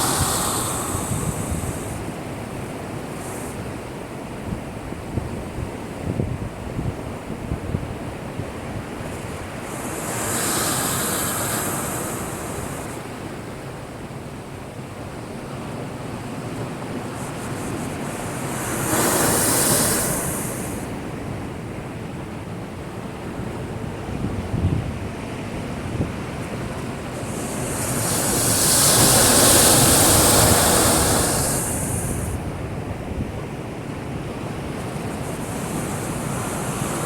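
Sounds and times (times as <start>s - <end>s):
waves crashing against breakwater: 0.0s - 6.0s, 7.0s - 37.0s
rough sea rumble: 0.0s - 37.0s.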